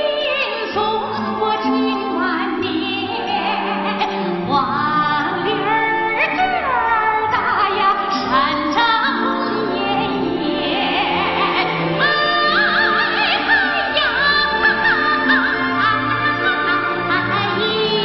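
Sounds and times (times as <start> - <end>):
high voice singing folk song: 0.0 - 18.0
instrumental accompaniment: 0.0 - 18.0.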